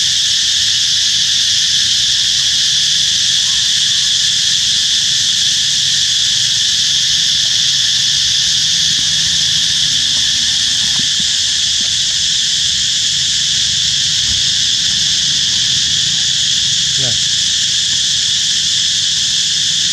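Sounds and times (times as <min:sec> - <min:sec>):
high-pitched insect drone: 0:00.0 - 0:19.9.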